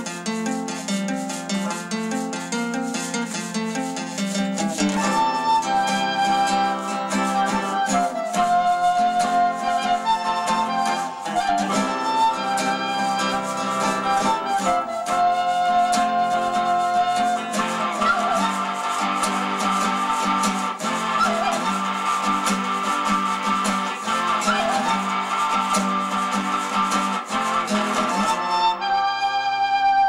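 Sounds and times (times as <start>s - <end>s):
maracas shaking: 0.0s - 29.0s
flute melody: 0.0s - 30.0s
plucked guitar: 0.0s - 30.0s.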